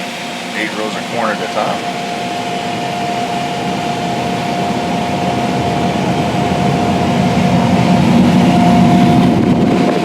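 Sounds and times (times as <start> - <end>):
combine harvester running: 0.0 - 10.0
high machine whine: 0.0 - 10.0.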